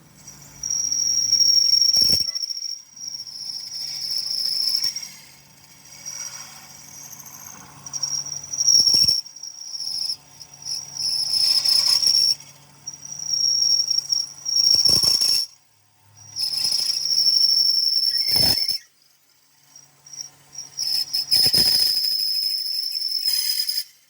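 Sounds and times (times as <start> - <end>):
machine whining: 0.0 - 23.1.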